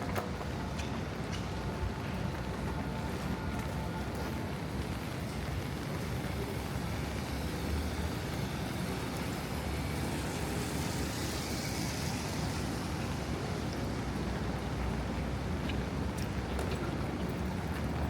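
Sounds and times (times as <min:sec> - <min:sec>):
road traffic noise: 0:00.0 - 0:18.0
tyres hissing on wet road: 0:02.2 - 0:18.0.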